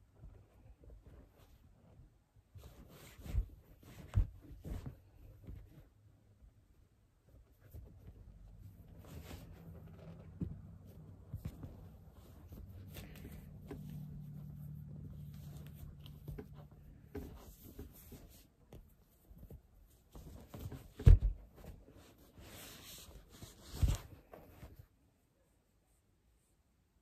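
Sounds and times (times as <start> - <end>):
low steady hum: 0.0 - 22.5
cloth rustling: 0.0 - 25.0.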